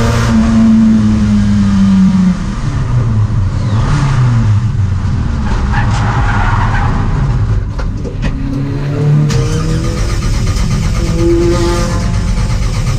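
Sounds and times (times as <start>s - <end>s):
race car engine revving: 0.0s - 12.9s
tyres skidding: 0.0s - 12.9s.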